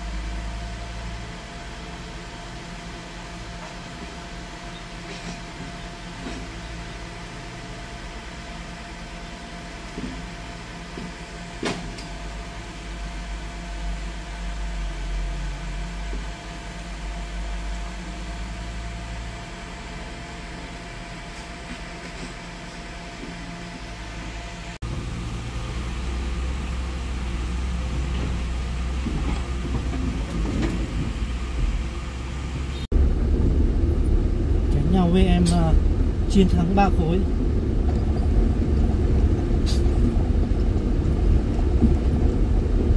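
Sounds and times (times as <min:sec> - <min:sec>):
truck engine low rumble: 0:00.0 - 0:42.9.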